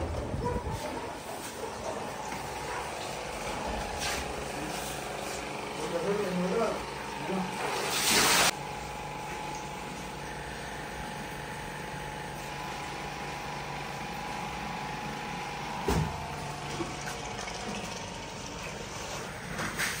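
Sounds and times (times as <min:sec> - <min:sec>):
mechanical hum with hiss: 0:00.1 - 0:20.0.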